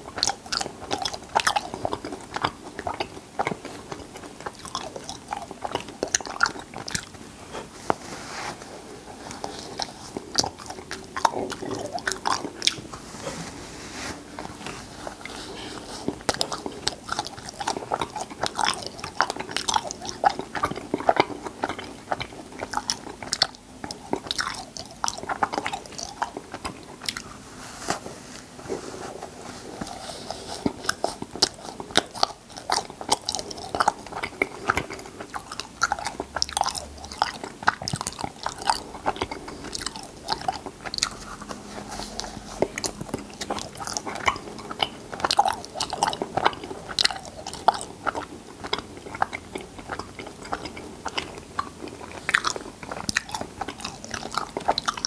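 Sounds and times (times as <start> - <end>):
person chewing cotton candy: 0.0 - 55.0.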